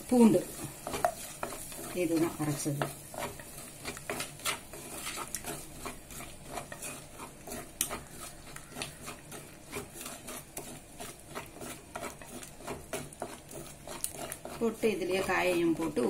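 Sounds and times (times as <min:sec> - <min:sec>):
wooden spatula scraping clay pot: 0:00.0 - 0:16.0.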